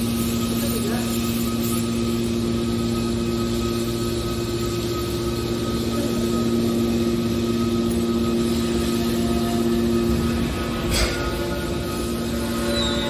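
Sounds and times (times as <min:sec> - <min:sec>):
baling press machine hum: 0:00.0 - 0:13.0.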